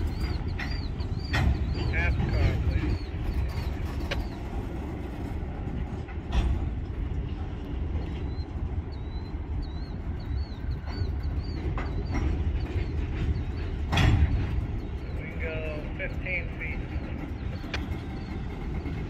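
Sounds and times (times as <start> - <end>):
rail cars rolling low rumble: 0.0 - 19.0
wheels clunking: 0.0 - 19.0.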